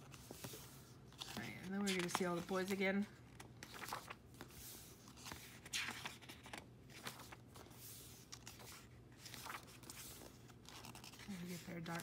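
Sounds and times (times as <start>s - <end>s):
paper pages turning: 0.0s - 12.0s.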